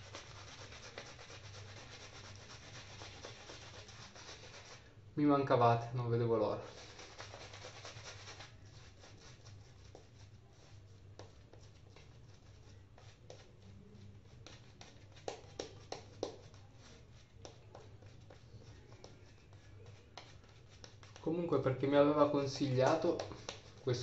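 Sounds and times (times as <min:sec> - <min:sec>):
shaving brush rubbing lather: 0:00.0 - 0:04.8, 0:06.4 - 0:21.4, 0:22.2 - 0:24.0.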